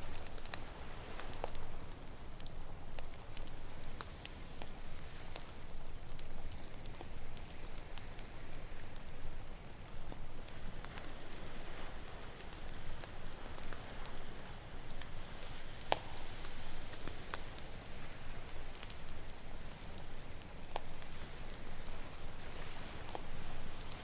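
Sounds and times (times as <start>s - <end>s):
campfire crackling: 0.0s - 24.0s
ocean waves on shore: 0.0s - 24.0s.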